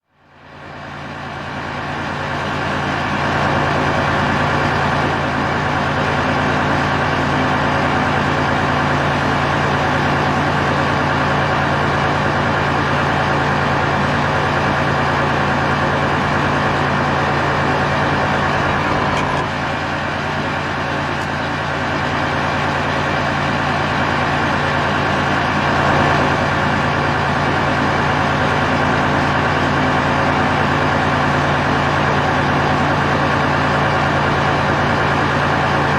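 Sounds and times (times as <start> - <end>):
tank engine idling: 0.2 - 35.9.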